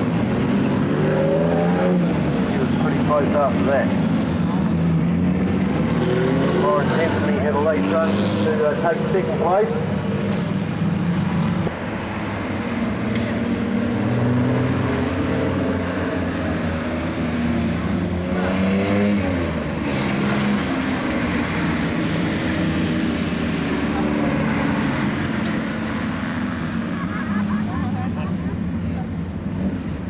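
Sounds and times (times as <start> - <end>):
engine revving up: 0.0 - 10.3, 11.4 - 27.0
racing car engines running: 0.0 - 30.0.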